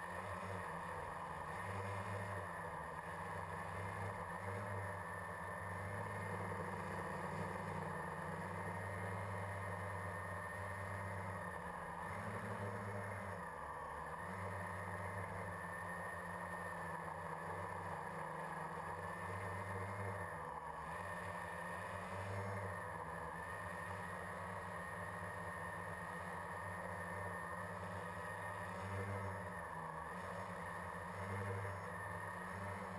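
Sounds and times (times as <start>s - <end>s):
drone motors and propellers droning: 0.0s - 32.9s.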